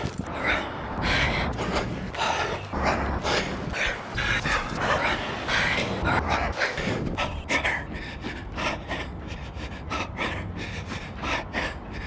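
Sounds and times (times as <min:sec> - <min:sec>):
man panting hard: 0:00.4 - 0:12.0.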